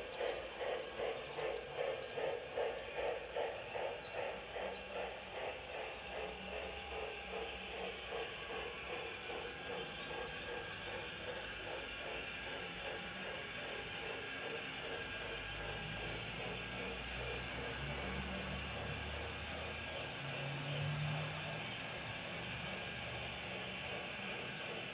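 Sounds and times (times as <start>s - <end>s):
model steam locomotive chuffing: 0.0s - 24.9s.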